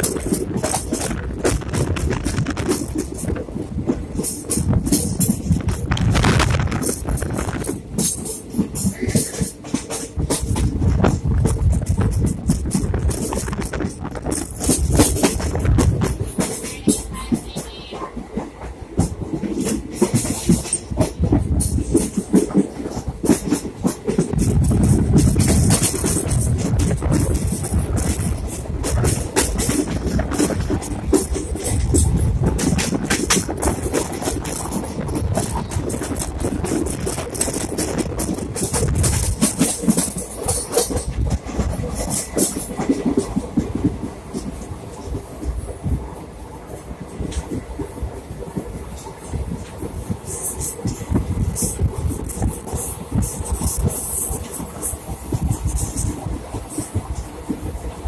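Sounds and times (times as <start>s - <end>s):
train rumbling: 0.0s - 58.0s
train wheels clattering on rails: 0.0s - 58.0s.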